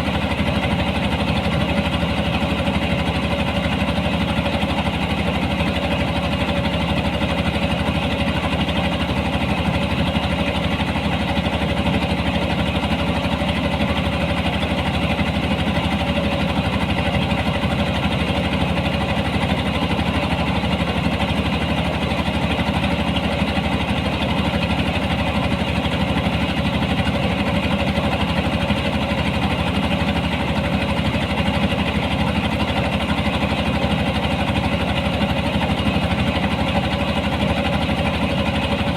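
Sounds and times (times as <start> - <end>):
harvesting machine engine running: 0.0 - 38.9.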